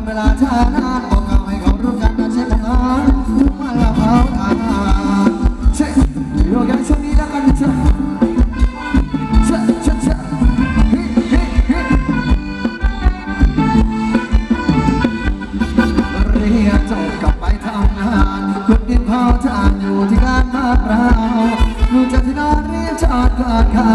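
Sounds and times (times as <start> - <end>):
instrumental dance band music: 0.0 - 23.9.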